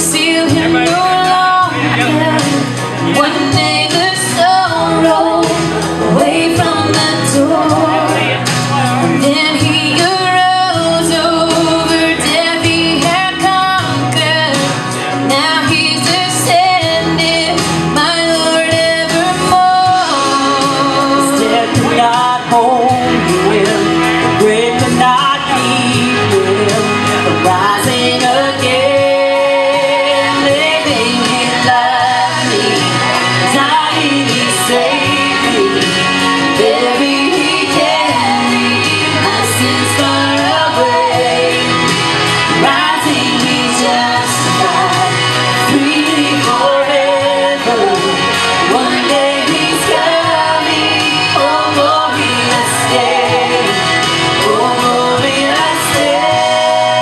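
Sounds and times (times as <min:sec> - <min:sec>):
women singing gospel in harmony: 0:00.0 - 0:08.5, 0:09.1 - 0:57.0
instrumental backing music: 0:00.0 - 0:57.0.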